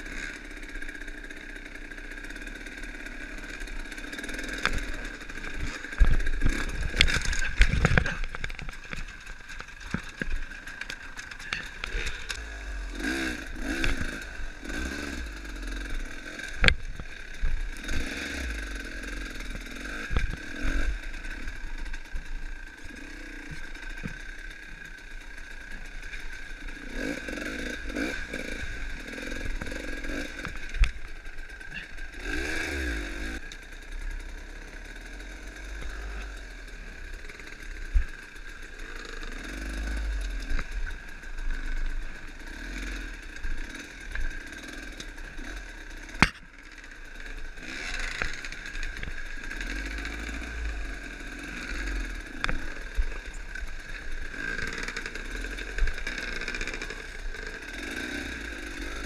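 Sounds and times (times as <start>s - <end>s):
dirt bike engine revving: 0.0s - 59.0s
bike knocking and scraping ground: 0.1s - 59.0s.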